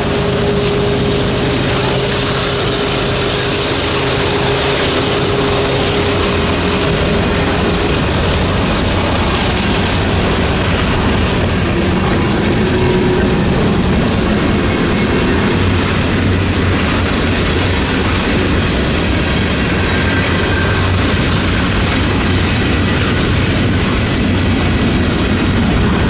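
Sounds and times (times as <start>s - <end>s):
steady whine: 0.0s - 26.0s
train running on track: 0.0s - 26.0s.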